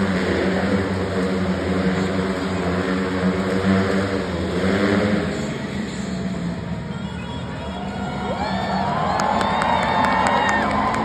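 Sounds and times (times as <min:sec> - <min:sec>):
motorcycle engines at high revs: 0:00.0 - 0:09.4.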